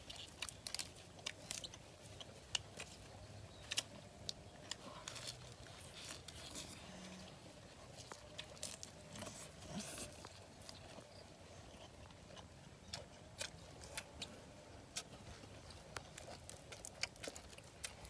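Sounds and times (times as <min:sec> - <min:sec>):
lettuce crunching: 0:00.0 - 0:18.0
people chewing: 0:00.0 - 0:18.0.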